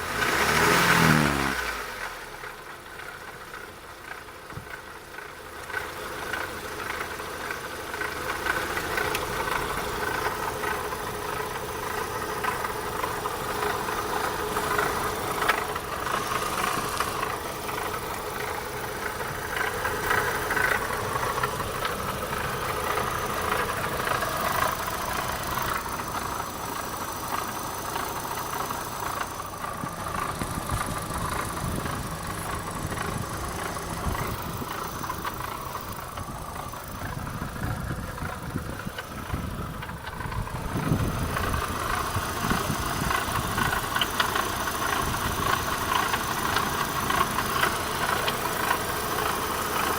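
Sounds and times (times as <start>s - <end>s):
car engine running: 0.0s - 49.9s
engine rattling: 0.0s - 49.9s.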